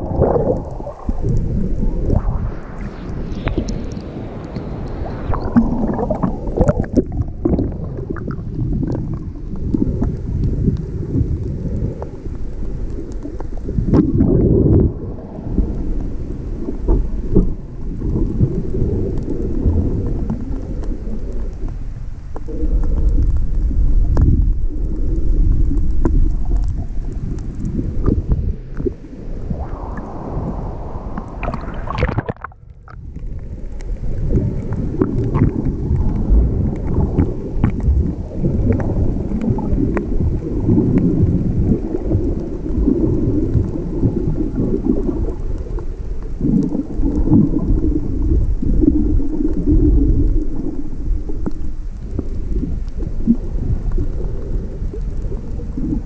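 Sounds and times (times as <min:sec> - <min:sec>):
muffled underwater waves: 0:00.0 - 0:56.0
water splashes: 0:00.0 - 0:56.0.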